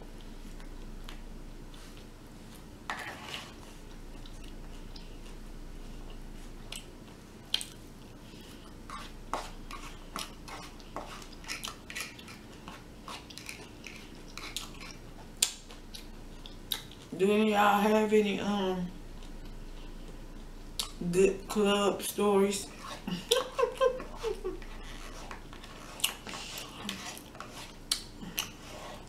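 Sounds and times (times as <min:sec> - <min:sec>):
person chewing food: 0:00.0 - 0:17.1, 0:19.0 - 0:21.0, 0:22.7 - 0:29.0.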